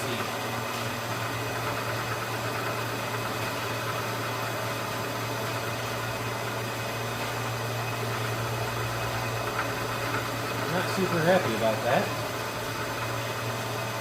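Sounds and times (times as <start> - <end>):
milling machine motor hum: 0.0 - 14.0.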